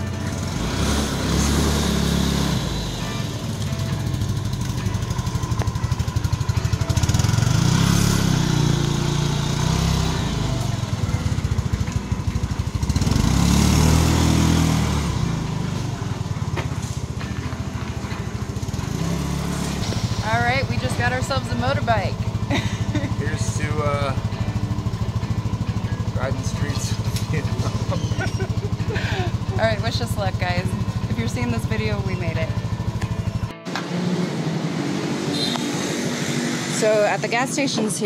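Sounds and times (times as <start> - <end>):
motor scooter engine revving: 0.0 - 38.0.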